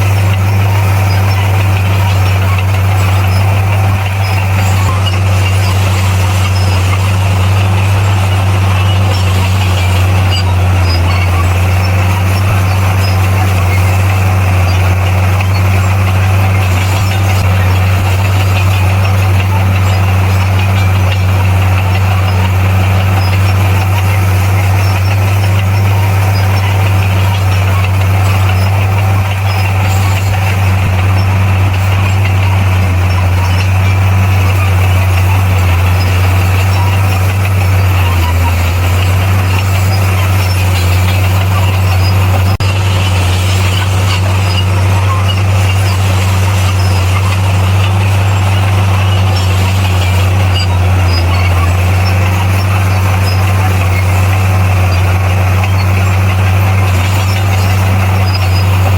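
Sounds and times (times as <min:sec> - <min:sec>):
diesel engine running steadily: 0:00.0 - 0:58.9.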